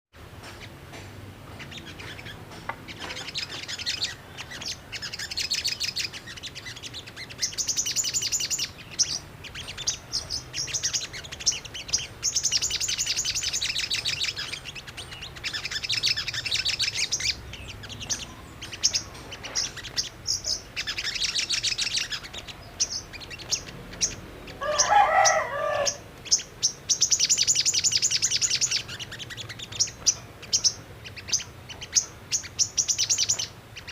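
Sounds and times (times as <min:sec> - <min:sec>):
bird chattering trills: 0:01.5 - 0:33.9.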